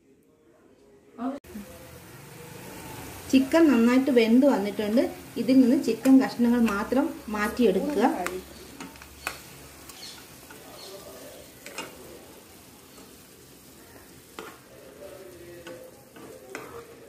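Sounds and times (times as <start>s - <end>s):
chicken simmering bubbling hiss: 1.5s - 17.0s.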